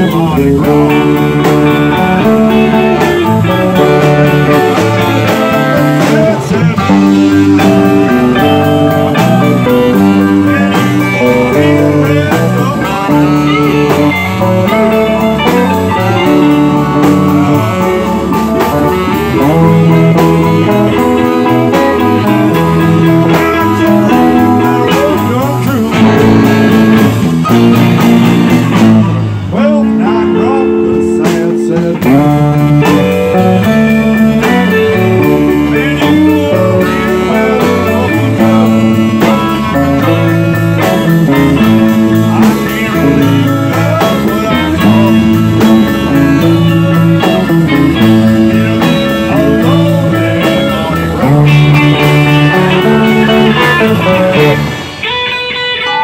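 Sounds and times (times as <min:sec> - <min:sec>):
drums: 0:00.0 - 0:56.0
electric guitars: 0:00.0 - 0:56.0
live band instrumental: 0:00.0 - 0:56.0.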